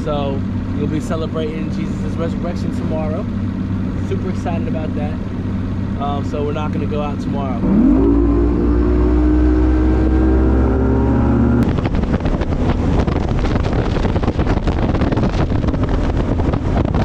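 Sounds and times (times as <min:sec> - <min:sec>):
outboard motor running: 0:00.0 - 0:17.0
wind buffeting microphone: 0:00.0 - 0:17.0.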